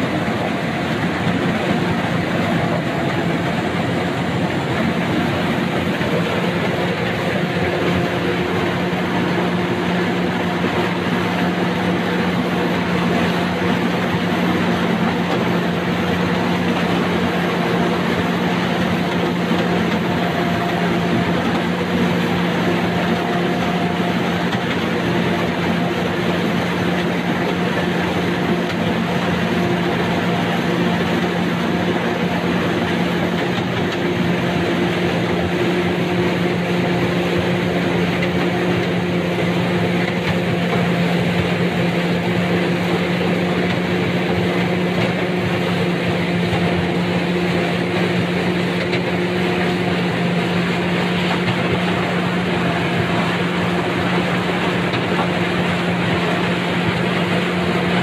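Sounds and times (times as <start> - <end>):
combine harvester engine and threshing: 0.0 - 58.0.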